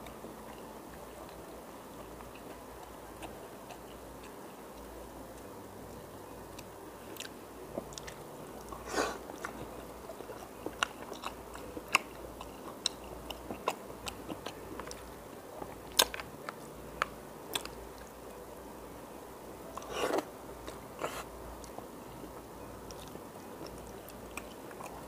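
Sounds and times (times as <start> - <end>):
person chewing food: 0.0 - 18.2, 19.7 - 25.0.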